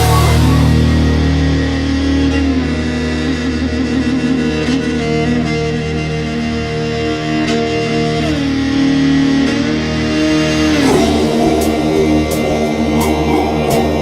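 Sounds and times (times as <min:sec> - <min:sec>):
instrumental music with held notes: 0:00.0 - 0:14.0.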